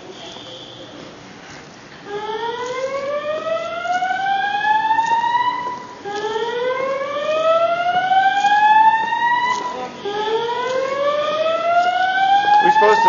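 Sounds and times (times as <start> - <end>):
fire alarm rising whoop tone: 2.1 - 13.0.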